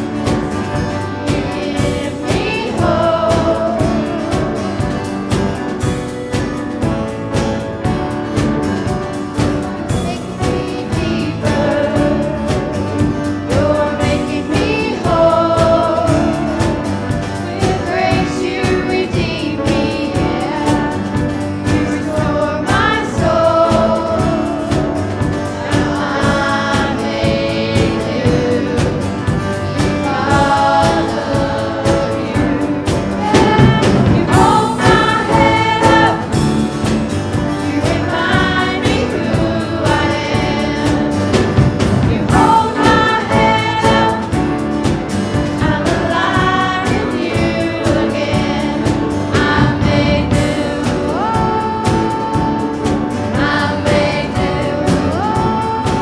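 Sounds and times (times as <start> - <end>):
choir singing worship song: 0.0 - 56.0
instrumental accompaniment: 0.0 - 56.0.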